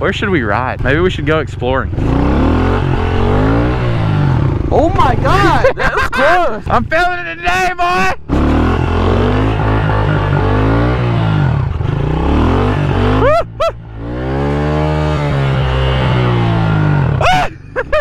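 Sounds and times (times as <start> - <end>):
pit bike engine revving: 0.2 - 5.8, 8.2 - 17.4.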